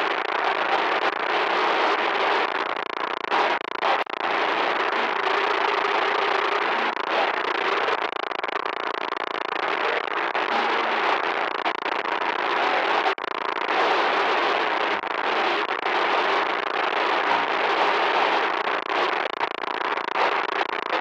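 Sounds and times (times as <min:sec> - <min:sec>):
harsh electronic static: 0:00.0 - 0:21.0.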